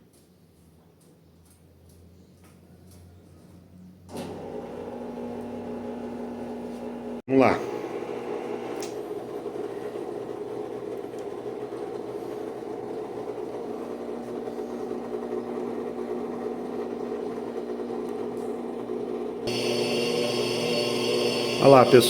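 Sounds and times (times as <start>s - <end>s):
washing machine motor humming: 4.1s - 22.0s.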